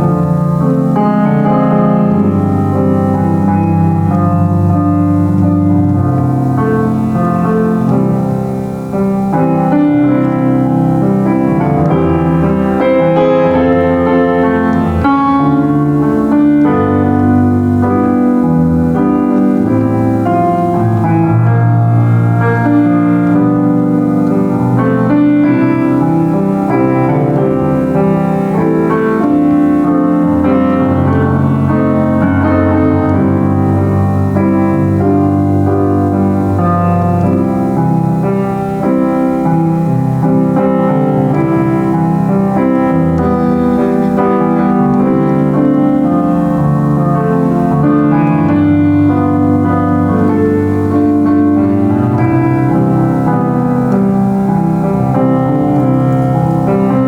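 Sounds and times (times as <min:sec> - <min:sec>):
solo piano playing chords: 0:00.0 - 0:57.0.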